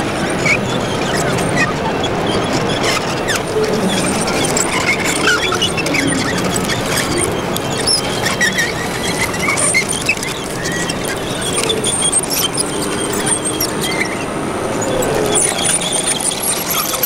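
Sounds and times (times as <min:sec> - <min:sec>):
metal tracks squeaking and clattering: 0:00.0 - 0:17.0.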